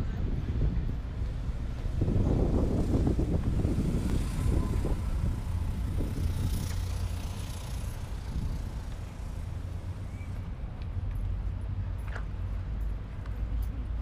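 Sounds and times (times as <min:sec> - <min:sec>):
low street ambience rumble: 0:00.0 - 0:14.0.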